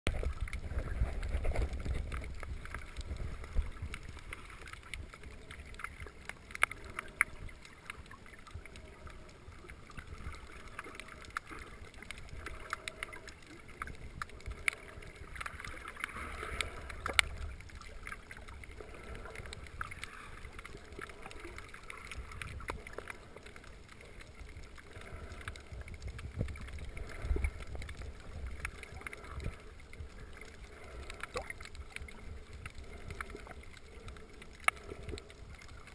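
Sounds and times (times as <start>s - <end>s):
muffled underwater water rumble: 0.1s - 35.9s
sharp clicks and crackles: 0.1s - 35.9s.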